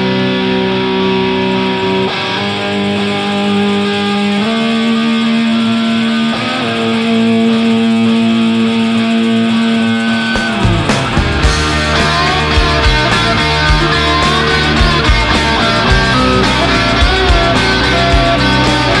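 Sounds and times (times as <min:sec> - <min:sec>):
music with long held chords: 0:00.0 - 0:19.0.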